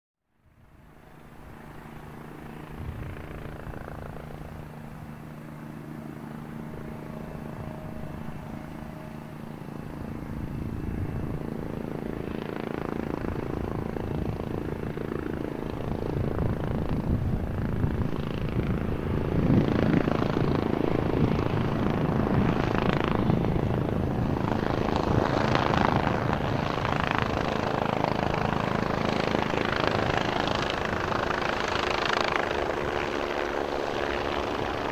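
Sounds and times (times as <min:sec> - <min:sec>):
helicopter rotor and engine: 0:00.3 - 0:34.9.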